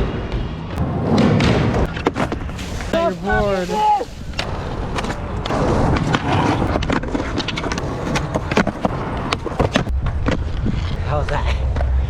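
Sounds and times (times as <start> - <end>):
skateboard wheels rumbling: 0.8 - 12.0.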